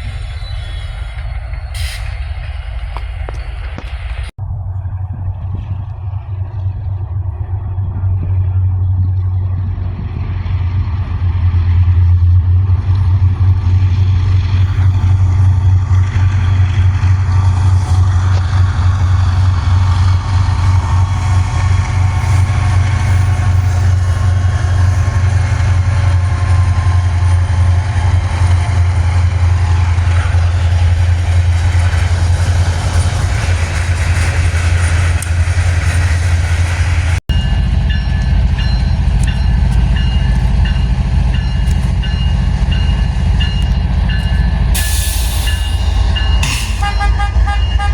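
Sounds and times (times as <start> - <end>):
diesel locomotive rumble: 0.0 - 47.9
rail and wheel noise: 0.0 - 47.9.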